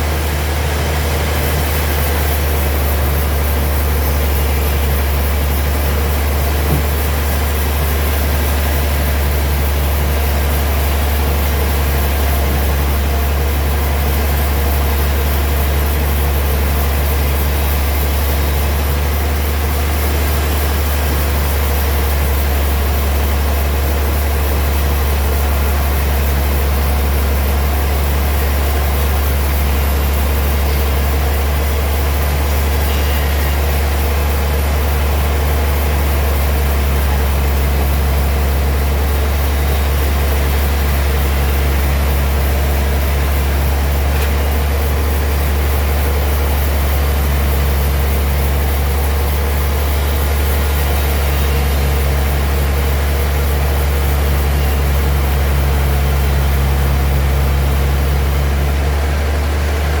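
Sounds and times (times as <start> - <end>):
sawmill machinery humming: 0.0 - 60.0.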